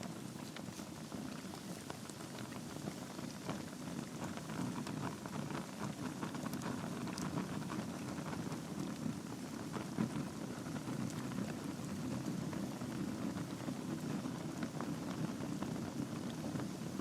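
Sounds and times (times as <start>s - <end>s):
log fire crackling: 0.0s - 17.0s
low rush of flames: 0.0s - 17.0s.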